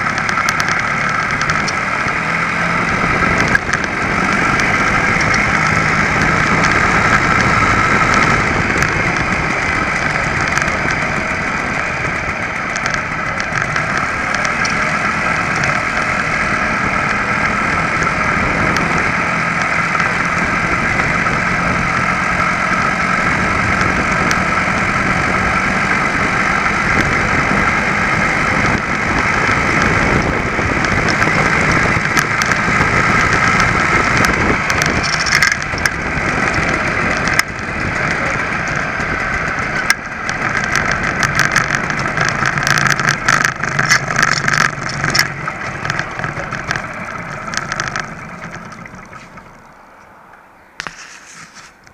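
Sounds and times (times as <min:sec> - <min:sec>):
moped two-stroke engine running: 0:00.0 - 0:51.9.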